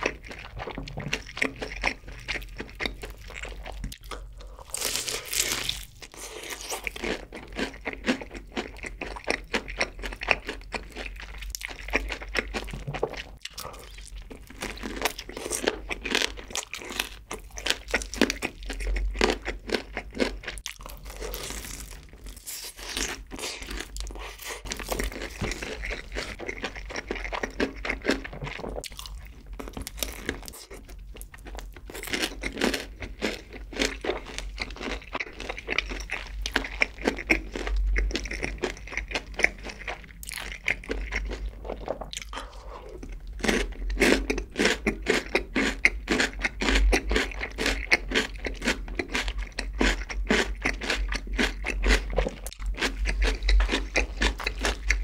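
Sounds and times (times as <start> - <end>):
crunching fried chicken: 0.0 - 55.0.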